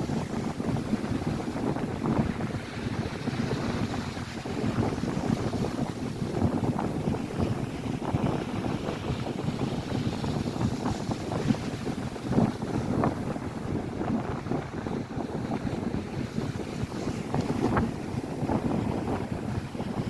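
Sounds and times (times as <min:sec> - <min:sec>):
waves breaking on shore: 0:00.0 - 0:20.0
wind buffeting microphone: 0:00.0 - 0:20.0.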